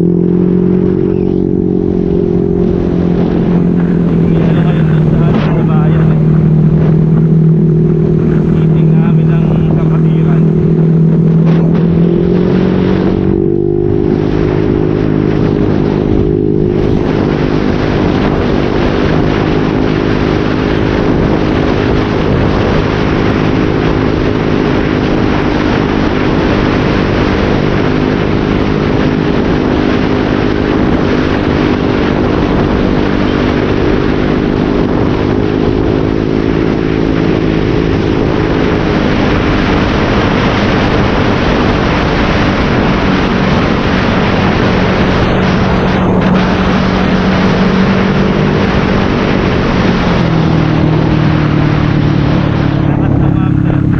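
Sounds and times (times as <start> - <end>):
motorcycle exhaust: 0.0 - 53.9.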